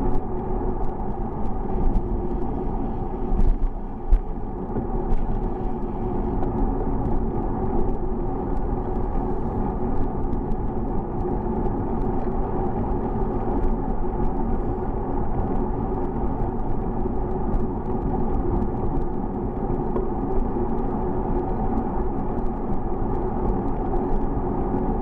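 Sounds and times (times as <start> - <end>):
bicycle rattling ticks: 0.0 - 25.0
wind and road rumble: 0.0 - 25.0.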